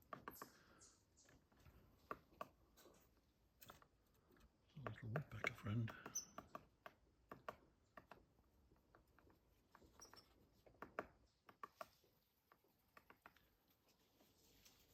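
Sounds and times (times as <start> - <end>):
woodpecker tapping on tree: 0.0 - 13.8.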